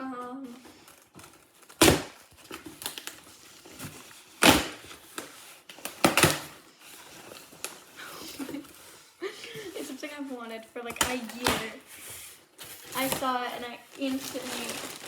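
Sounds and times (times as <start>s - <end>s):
packaging crinkling and rustling: 0.5s - 15.0s.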